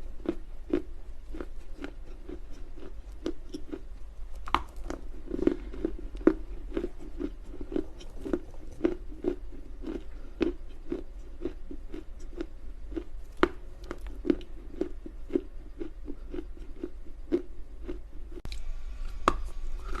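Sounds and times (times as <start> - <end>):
rhythmic crunching chewing: 0.0 - 20.0.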